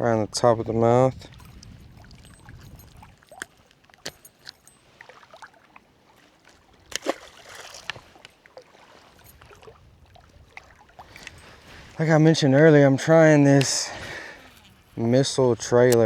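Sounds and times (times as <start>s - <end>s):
quiet water sounds: 0.0s - 16.0s.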